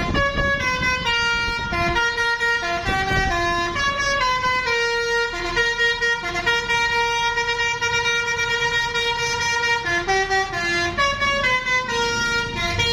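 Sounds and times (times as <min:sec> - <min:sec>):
bus musical horn playing tune: 0:00.0 - 0:12.9.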